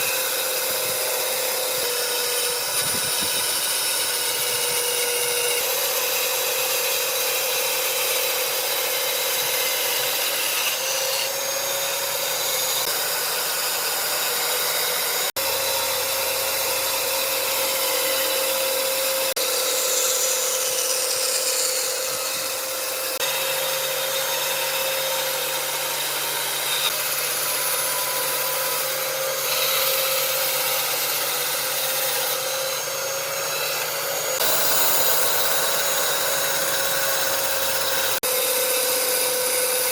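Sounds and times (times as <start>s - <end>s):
power tools machining wood: 0.0s - 39.9s.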